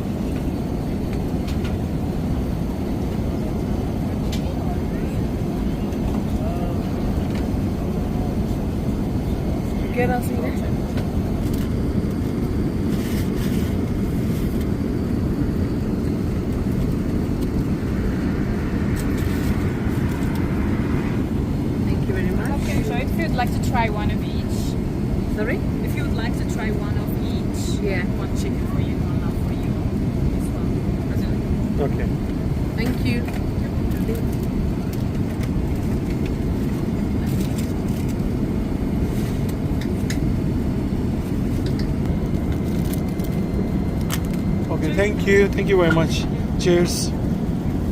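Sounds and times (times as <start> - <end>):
aircraft cabin rumble: 0.0 - 47.9.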